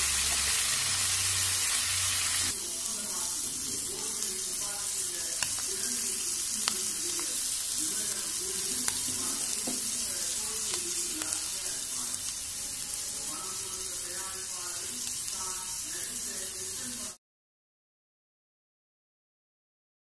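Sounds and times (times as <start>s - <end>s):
meat frying in oil: 0.0s - 17.2s.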